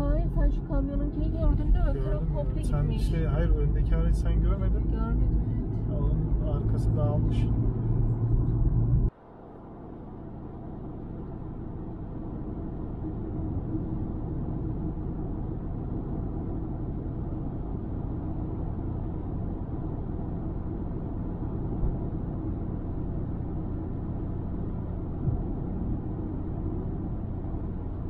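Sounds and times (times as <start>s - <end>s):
car cabin road noise: 0.0s - 28.0s.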